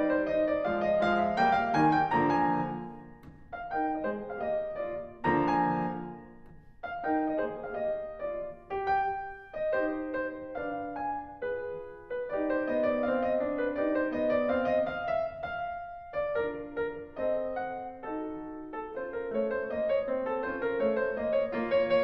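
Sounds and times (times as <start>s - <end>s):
background piano music: 0.0s - 22.0s.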